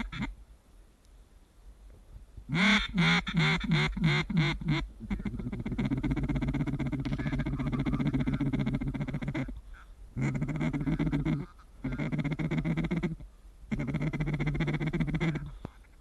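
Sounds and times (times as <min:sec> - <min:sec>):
duck call raspy chatter: 0:00.0 - 0:00.3, 0:02.5 - 0:15.6.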